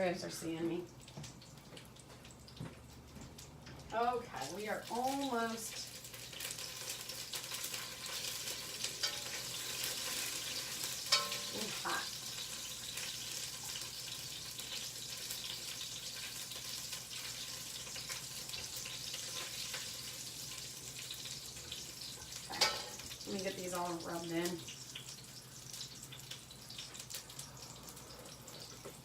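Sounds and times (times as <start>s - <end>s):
pot sizzling on stovetop: 0.0s - 29.0s.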